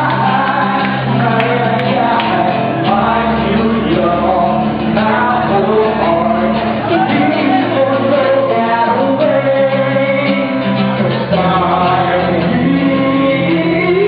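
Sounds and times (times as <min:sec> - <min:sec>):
bass line: 0:00.0 - 0:14.0
live band playing: 0:00.0 - 0:14.0
person singing: 0:00.0 - 0:14.0.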